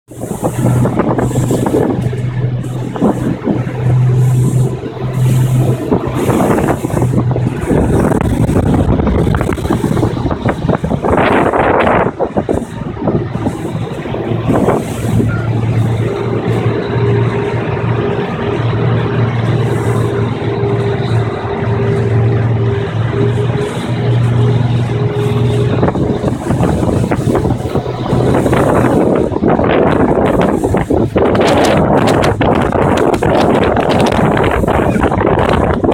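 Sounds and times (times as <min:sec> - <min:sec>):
boat engine humming: 0:00.0 - 0:35.9
wind rushing over microphone: 0:00.1 - 0:35.9.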